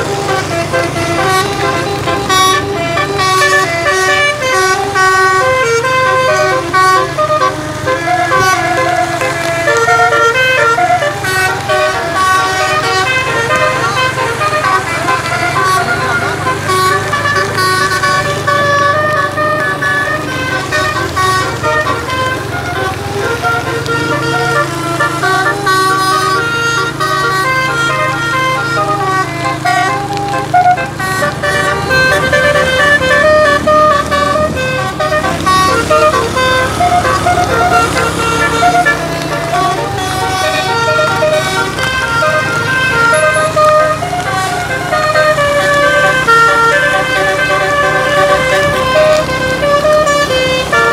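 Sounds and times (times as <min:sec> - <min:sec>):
bus engine running: 0:00.0 - 0:50.9
multi-tone bus horn tune: 0:00.0 - 0:50.9.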